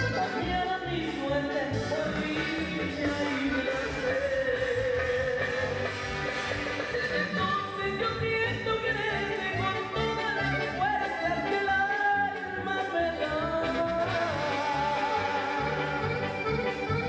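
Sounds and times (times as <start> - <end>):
band playing latin dance music: 0.0 - 17.0.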